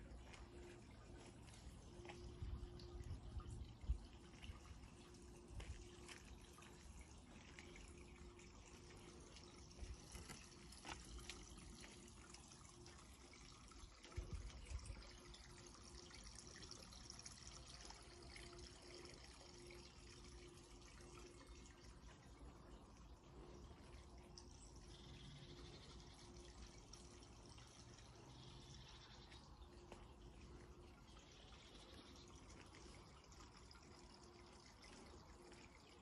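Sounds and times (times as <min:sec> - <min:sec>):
faint garden ambience: 0:00.0 - 0:36.0.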